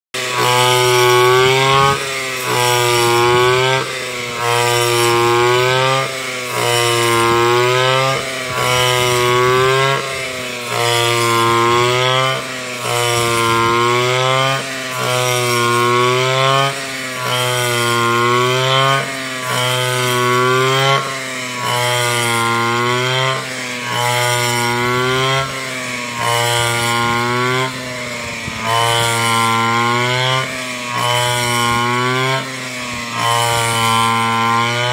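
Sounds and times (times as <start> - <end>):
brush cutter engine cutting: 0.2 - 34.9.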